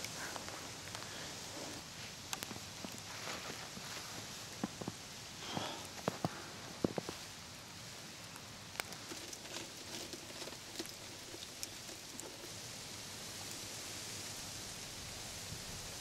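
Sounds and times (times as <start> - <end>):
snow ticking on frozen branches: 0.0 - 15.9
snow hissing in wind: 0.0 - 16.0.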